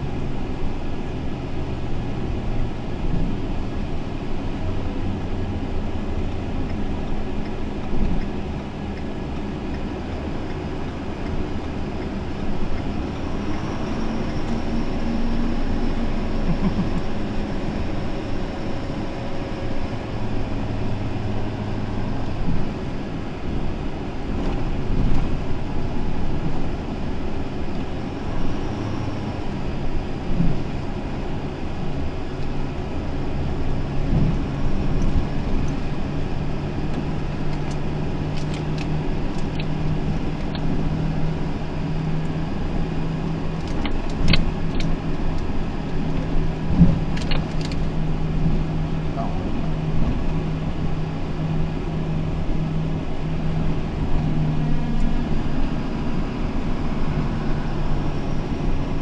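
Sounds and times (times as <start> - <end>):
car engine running: 0.0 - 59.0
road and tyre noise: 0.0 - 59.0.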